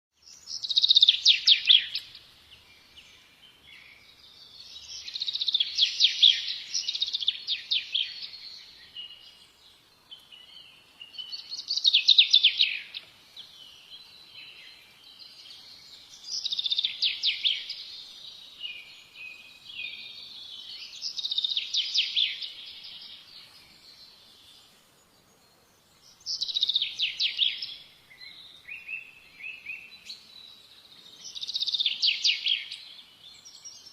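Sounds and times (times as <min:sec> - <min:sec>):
songbird chirping: 0:00.1 - 0:33.9.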